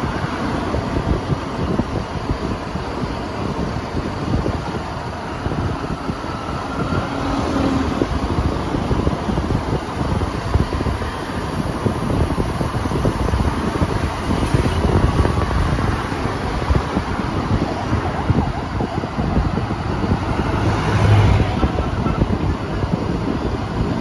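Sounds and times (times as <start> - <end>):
motorbike road noise: 0.0 - 24.0
wind buffeting microphone: 0.0 - 24.0.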